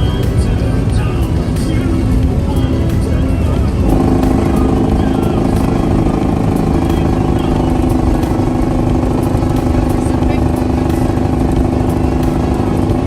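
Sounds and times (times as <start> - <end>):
truck engine and road drone: 0.0 - 13.0.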